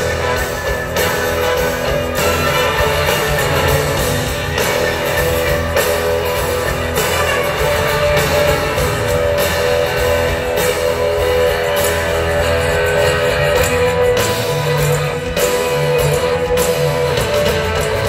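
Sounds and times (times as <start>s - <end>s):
drums: 0.0s - 18.0s
strummed guitar chords: 0.0s - 18.0s.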